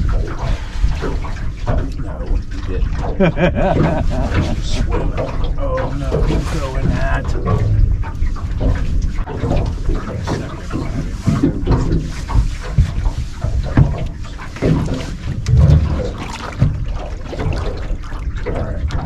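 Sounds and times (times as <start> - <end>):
water splashing: 0.0 - 19.0.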